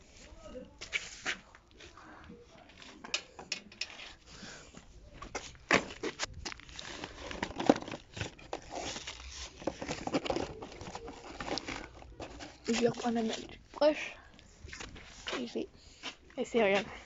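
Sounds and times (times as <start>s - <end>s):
irregular rustling: 0.0s - 17.0s.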